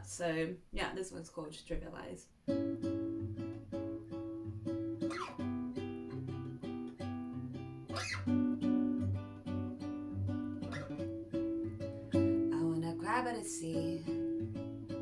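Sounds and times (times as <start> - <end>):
acoustic guitar strumming: 2.4 - 15.0.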